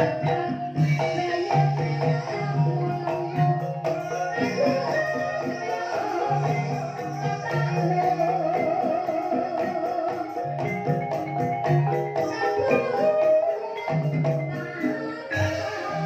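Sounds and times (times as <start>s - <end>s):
mallet-struck keyed instruments: 0.0s - 16.0s.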